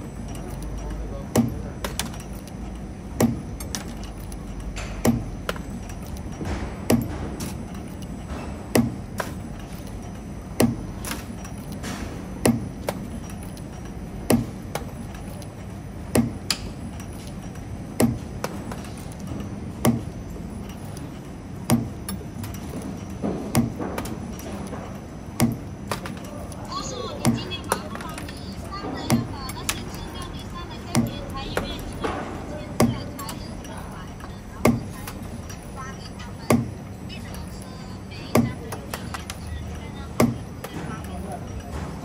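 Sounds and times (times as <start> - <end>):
steady machine hum: 0.0 - 42.0.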